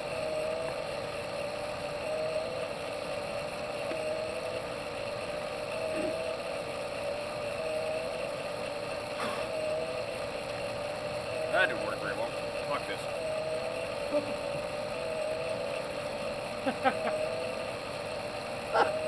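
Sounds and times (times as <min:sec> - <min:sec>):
electric motor humming: 0:00.0 - 0:19.0
rushing flame column: 0:00.0 - 0:19.0.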